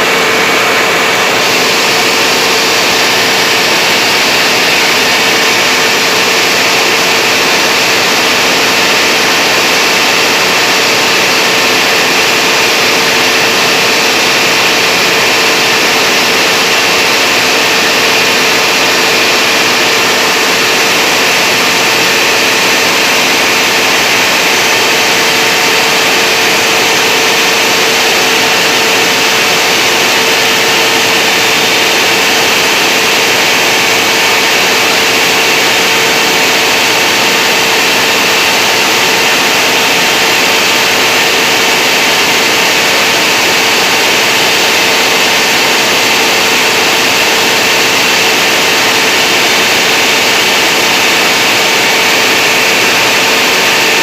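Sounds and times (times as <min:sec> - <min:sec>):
generator running: 0:00.0 - 0:54.0
steady whine: 0:00.0 - 0:54.0.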